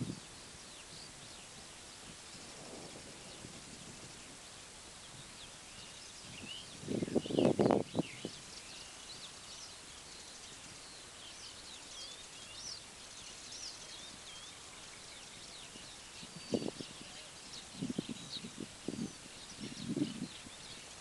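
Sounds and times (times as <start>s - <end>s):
outdoor hiss: 0.0s - 21.0s
small birds chirping: 0.0s - 21.0s.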